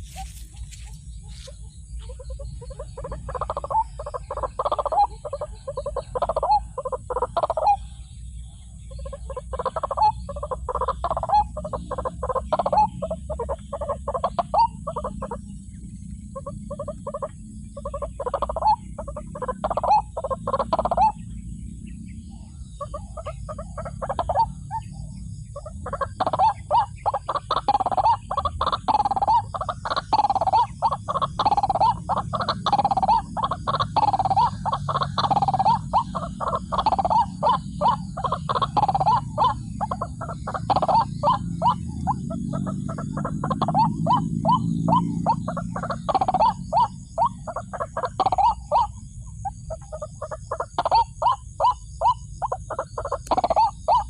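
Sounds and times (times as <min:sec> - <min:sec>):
waterhen calling: 0:00.0 - 0:08.0, 0:08.8 - 0:15.5, 0:16.2 - 0:21.4, 0:22.4 - 0:54.0.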